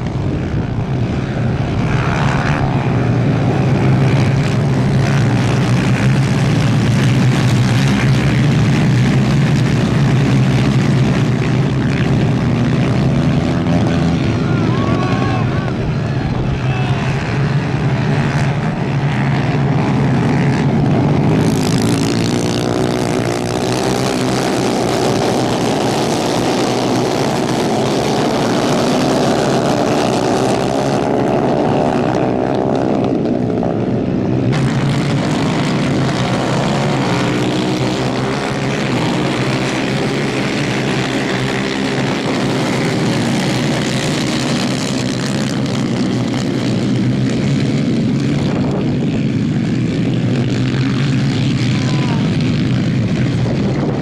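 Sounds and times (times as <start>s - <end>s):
kart engines racing: 0.0s - 54.0s.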